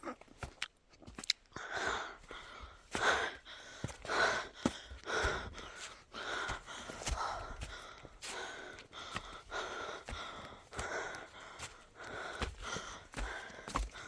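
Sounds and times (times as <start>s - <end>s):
person breathing hard: 1.5s - 14.0s.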